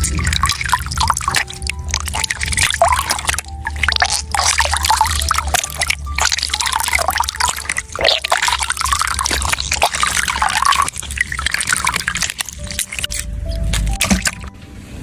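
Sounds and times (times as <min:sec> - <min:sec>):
liquid pouring and dripping: 0:00.0 - 0:14.6.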